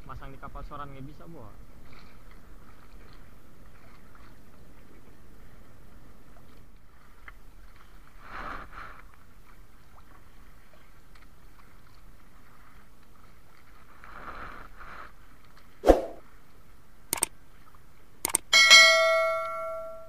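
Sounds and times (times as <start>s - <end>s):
water lapping against a canoe: 0.6s - 18.2s.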